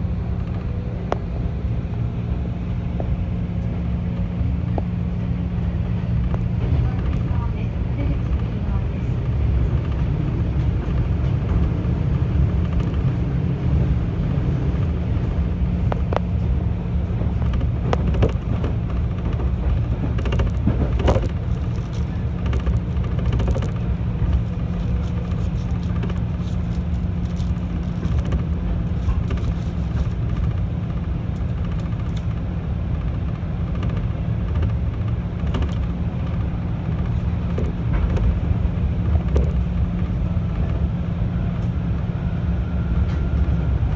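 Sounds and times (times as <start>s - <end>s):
train low rumble and hum: 0.0s - 43.9s.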